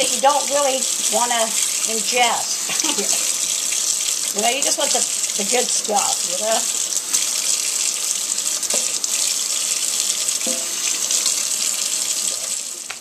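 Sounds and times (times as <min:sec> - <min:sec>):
faucet running into metal sink: 0:00.0 - 0:13.0.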